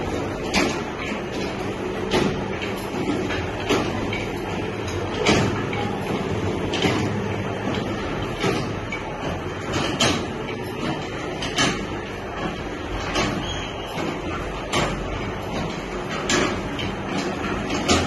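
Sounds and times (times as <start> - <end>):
machine knocking: 0.0 - 18.0
mixing machine running: 0.0 - 18.0.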